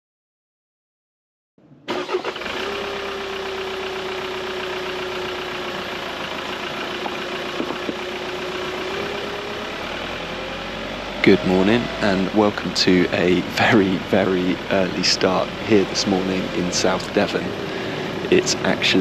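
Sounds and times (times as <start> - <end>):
car engine hum with whine: 1.9 - 19.0.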